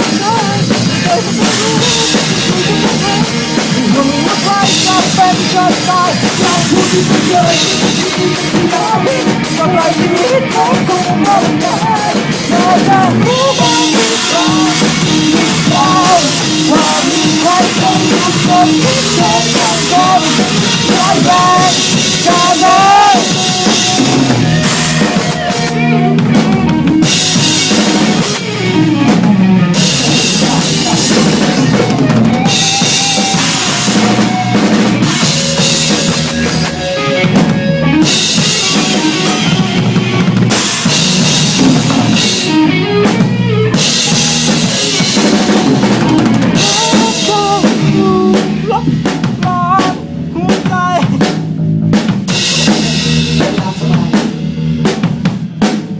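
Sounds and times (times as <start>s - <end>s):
bass drum and snare: 0.0s - 55.9s
rock band playing live: 0.0s - 55.9s.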